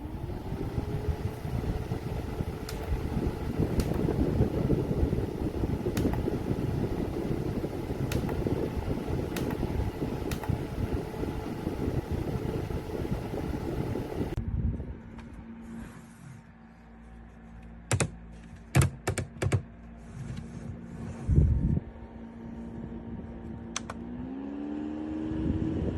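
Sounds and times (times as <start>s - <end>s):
fan running: 0.0s - 18.6s, 19.7s - 25.9s.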